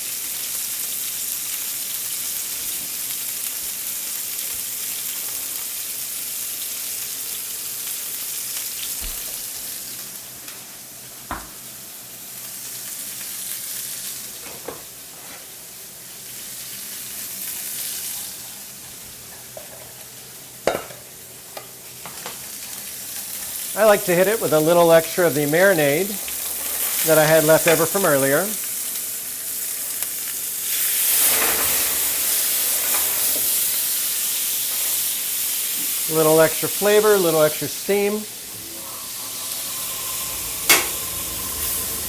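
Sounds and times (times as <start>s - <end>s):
chicken sizzling in a pan: 0.0s - 42.0s.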